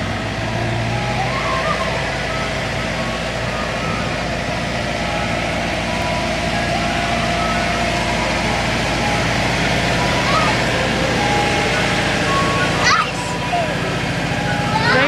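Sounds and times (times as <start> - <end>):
ice cream truck engine droning: 0.0 - 15.0.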